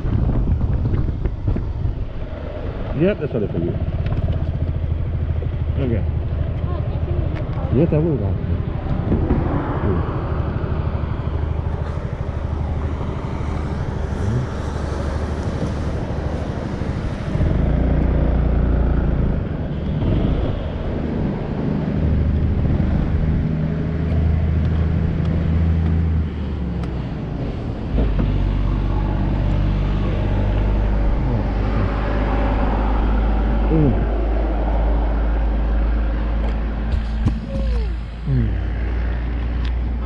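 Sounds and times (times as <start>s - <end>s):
road noise: 0.0s - 40.0s
wind: 0.0s - 40.0s.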